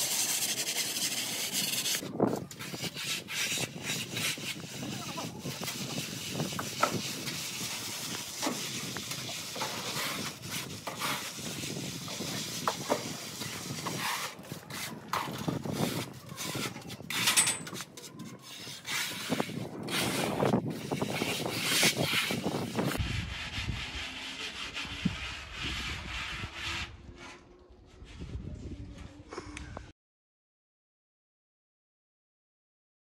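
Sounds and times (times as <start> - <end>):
float scraping render on wall: 0.0 - 28.4.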